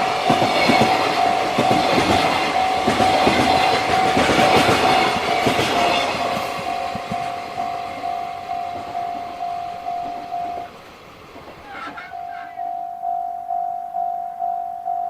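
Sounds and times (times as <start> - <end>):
level-crossing warning bell: 0.0 - 11.1, 12.1 - 15.0
passing train: 0.0 - 15.0.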